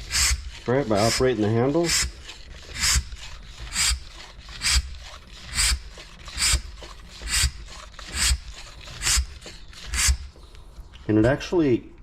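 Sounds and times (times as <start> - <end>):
hand vacuum pump hissing: 0.0 - 10.5.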